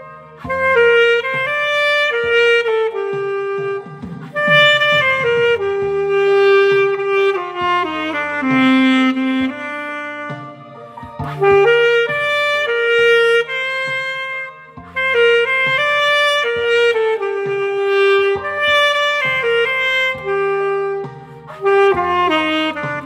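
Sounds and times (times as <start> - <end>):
bass and chords accompaniment: 0.0 - 23.0
saxophone melody: 0.0 - 23.0.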